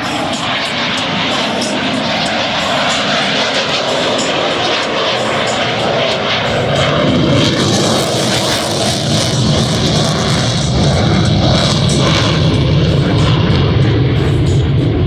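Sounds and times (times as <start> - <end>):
fighter jet flying: 0.0 - 15.0.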